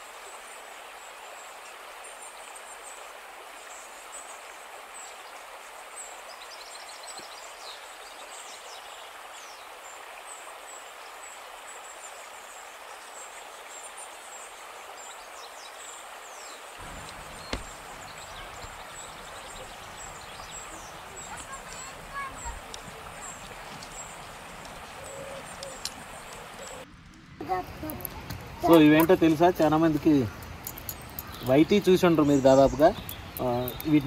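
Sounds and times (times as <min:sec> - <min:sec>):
river rushing: 0:00.0 - 0:34.0
small birds chirping: 0:05.0 - 0:10.0, 0:11.8 - 0:34.0.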